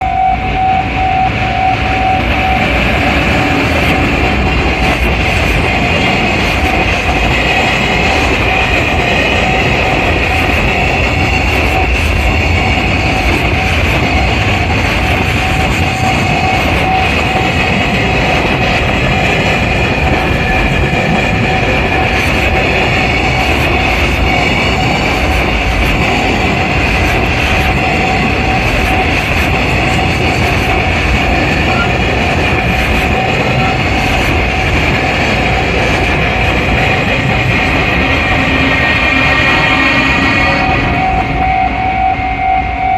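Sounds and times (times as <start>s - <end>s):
train wagons clattering over rails: 1.2s - 41.6s.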